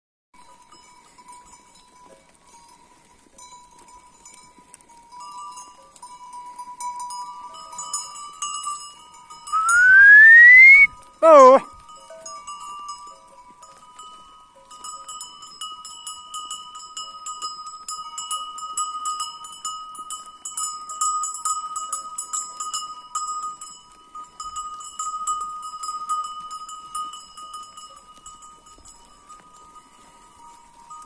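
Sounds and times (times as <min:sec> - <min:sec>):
sheep bells jingling: 0:00.4 - 0:31.0.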